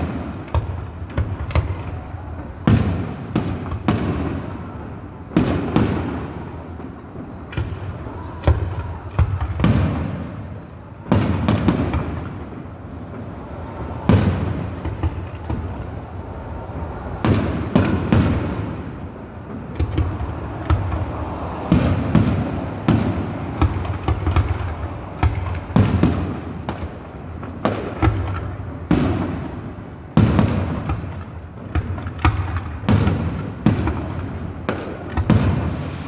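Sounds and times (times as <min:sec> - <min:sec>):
fireworks bursting with bangs: 0:00.0 - 0:36.0.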